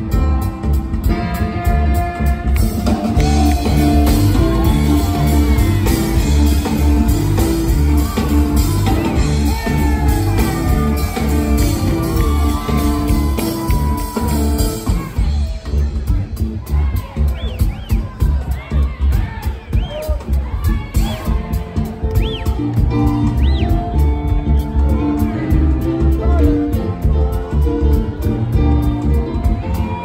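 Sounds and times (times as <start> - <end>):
live band playing upbeat song: 0.0 - 30.0.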